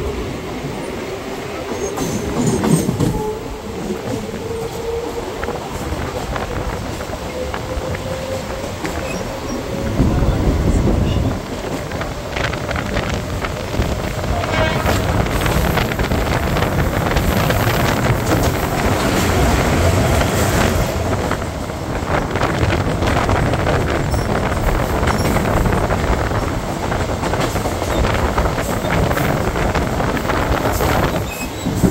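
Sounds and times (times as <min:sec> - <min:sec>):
train carriage rumbling: 0:00.0 - 0:31.9
wind rushing over microphone: 0:02.9 - 0:31.9.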